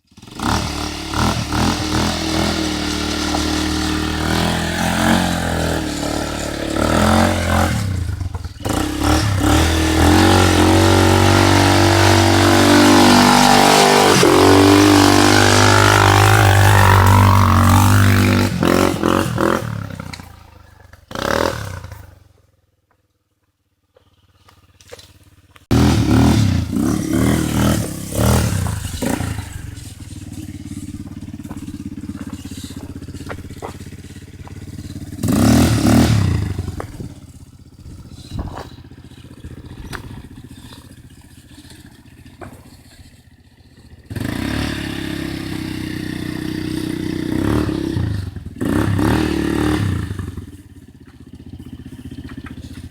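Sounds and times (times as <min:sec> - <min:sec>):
quad bike engine revving: 0:00.0 - 0:22.3, 0:24.1 - 0:52.9.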